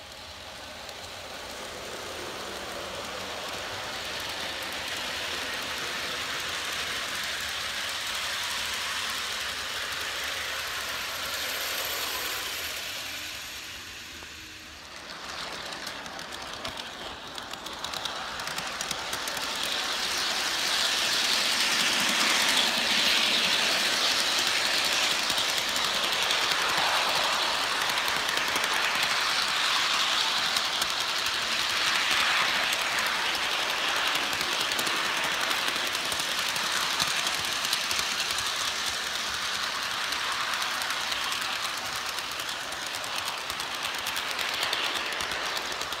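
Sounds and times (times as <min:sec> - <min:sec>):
model train wheels rumbling on rails: 0:00.0 - 0:46.0.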